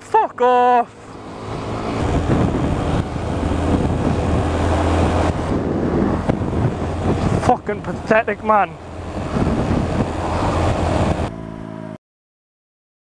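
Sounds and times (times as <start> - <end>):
motorcycle engine pulling away: 0.9 - 11.6
wind noise on microphone: 1.2 - 11.7.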